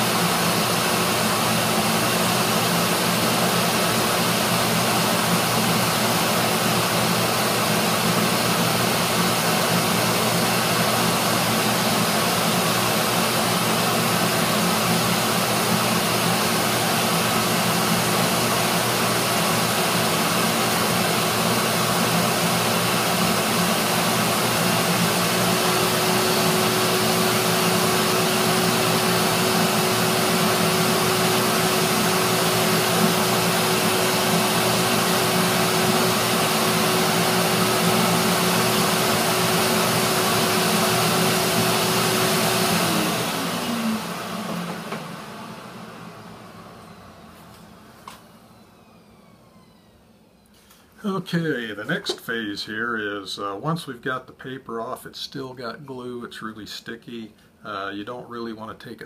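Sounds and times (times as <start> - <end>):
heat gun blowing whir: 0.0 - 50.2.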